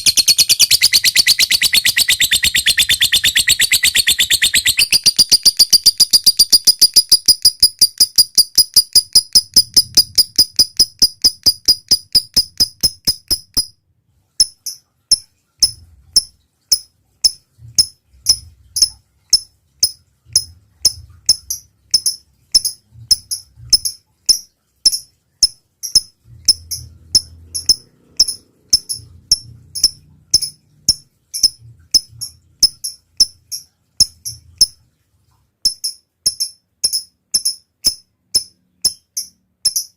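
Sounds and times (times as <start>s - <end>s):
lovebird chirping: 0.0s - 13.8s, 14.4s - 34.9s, 35.6s - 39.9s.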